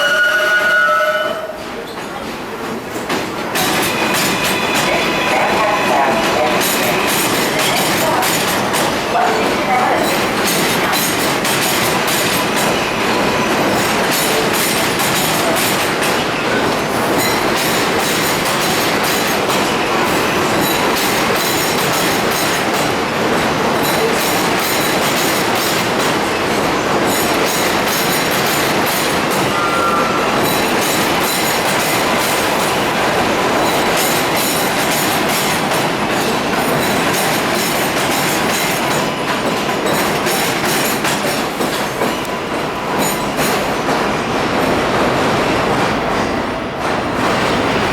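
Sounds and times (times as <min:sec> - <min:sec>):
train wheels clattering over rails: 0:00.0 - 0:47.9.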